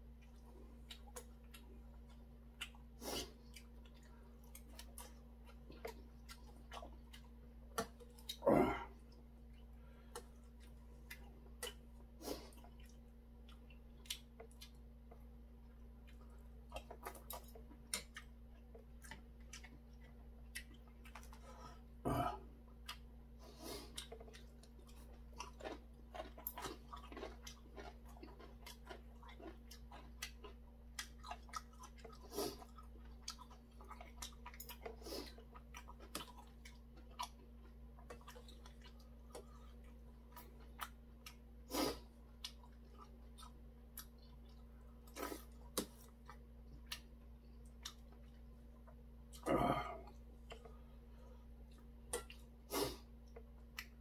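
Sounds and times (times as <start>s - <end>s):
faint steady hum: 0.0s - 54.0s
person chewing food: 0.0s - 54.0s.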